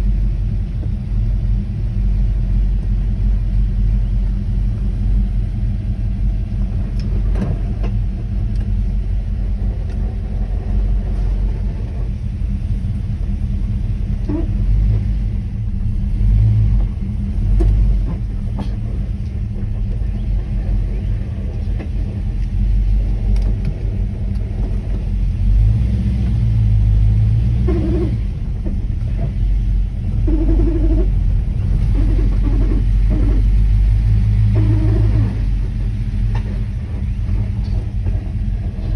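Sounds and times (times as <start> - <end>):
car engine low rumble: 0.0 - 38.9.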